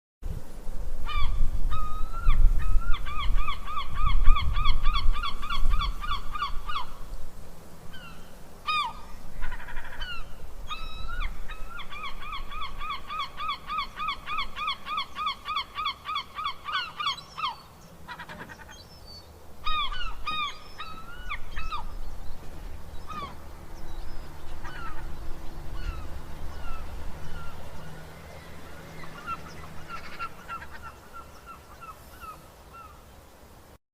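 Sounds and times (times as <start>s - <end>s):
cranes calling: 1.0s - 7.1s, 7.9s - 33.0s.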